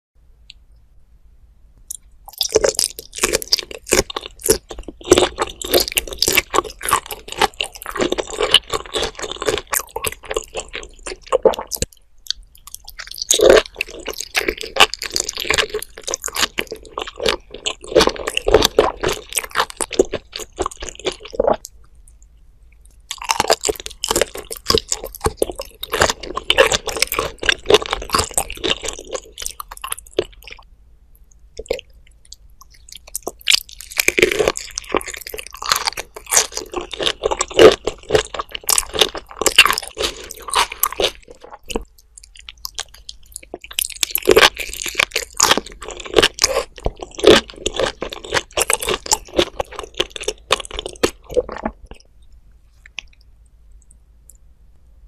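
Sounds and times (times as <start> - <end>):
wet chewing sounds: 1.9 - 30.7, 31.6 - 52.1.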